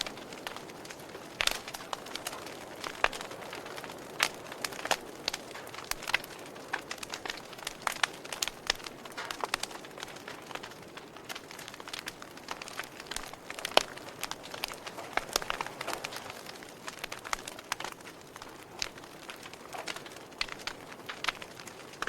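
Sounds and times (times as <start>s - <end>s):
soft steady hiss: 0.0s - 22.0s
wood fire crackling: 0.0s - 22.0s.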